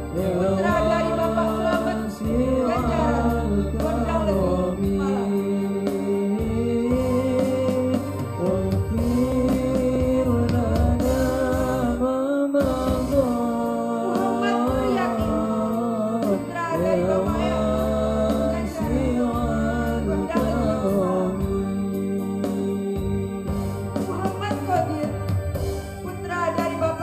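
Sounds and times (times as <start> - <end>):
male voices singing: 0.0 - 24.0
electronic keyboard accompaniment: 0.0 - 27.0.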